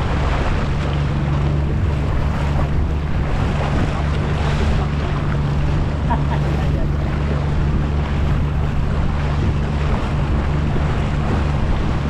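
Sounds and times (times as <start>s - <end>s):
powerboat engine droning: 0.0s - 12.0s
water splashing against hull: 0.0s - 12.0s
wind on microphone: 0.0s - 12.0s.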